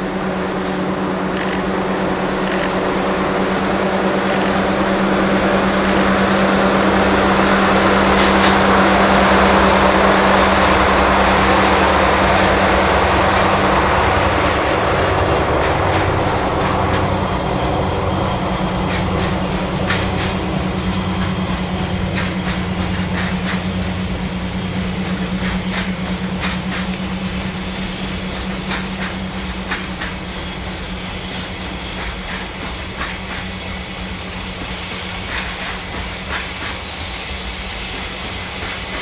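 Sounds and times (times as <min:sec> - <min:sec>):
diesel engine hum: 0:00.0 - 0:36.7
freight train rumbling past: 0:00.0 - 0:39.0.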